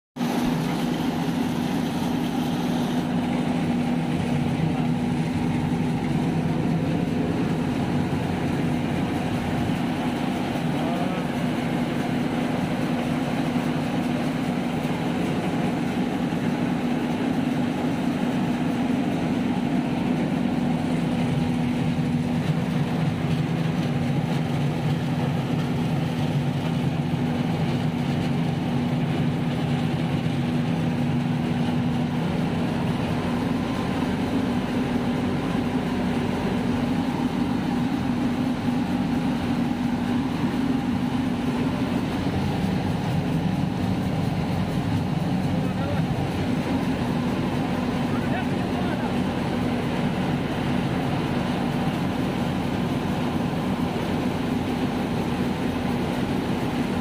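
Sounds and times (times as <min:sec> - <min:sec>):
rice mill machine hum: 0:00.2 - 0:57.0.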